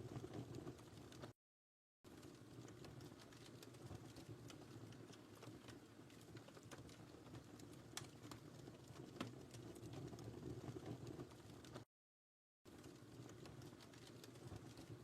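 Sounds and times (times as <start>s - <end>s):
faint wood fire crackling: 0.0s - 1.4s, 2.1s - 11.9s, 12.7s - 15.0s.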